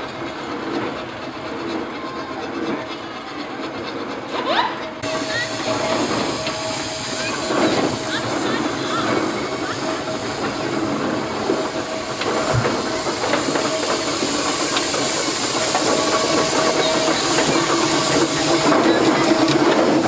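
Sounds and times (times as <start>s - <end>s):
steam engine hissing: 0.0s - 20.0s.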